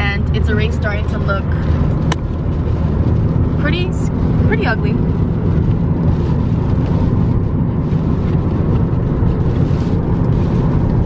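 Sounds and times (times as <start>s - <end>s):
rain hitting windshield: 0.0s - 11.0s
tyres on wet road: 0.0s - 11.0s
wind noise: 0.0s - 11.0s.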